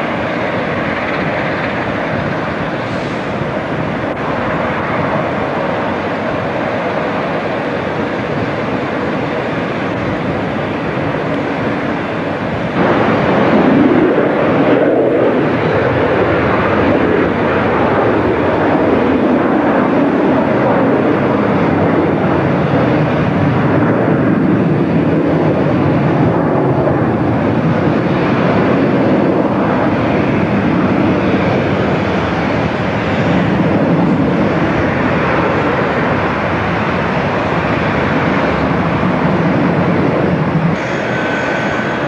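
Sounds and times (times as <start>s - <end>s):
jet engines running: 0.0s - 42.0s.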